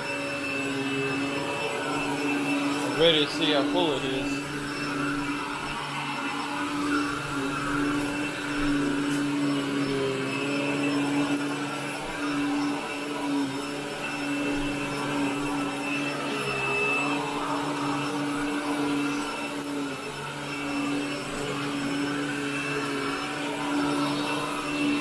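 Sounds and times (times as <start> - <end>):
vacuum cleaner running on carpet: 0.0 - 25.0.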